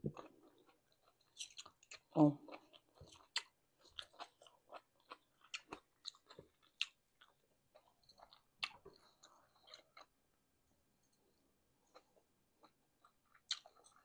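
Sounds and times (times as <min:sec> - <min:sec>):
person chewing with wet smacks: 0:00.0 - 0:10.2, 0:11.9 - 0:14.0.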